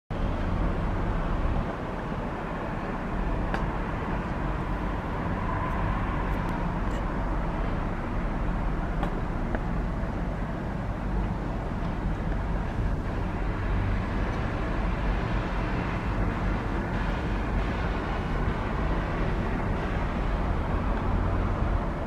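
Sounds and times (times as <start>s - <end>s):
boat engines rumbling: 0.1s - 22.0s
outdoor noise haze: 0.1s - 22.0s.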